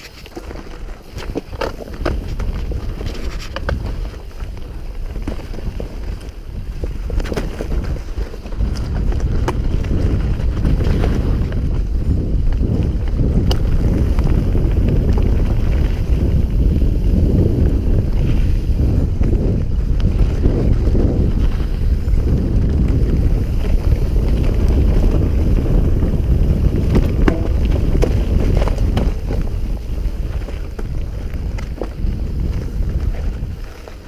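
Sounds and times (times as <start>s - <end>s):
bike rattling over roots: 0.0s - 34.0s
tyres rumbling on dirt: 0.0s - 34.0s
wind buffeting microphone: 0.0s - 34.0s.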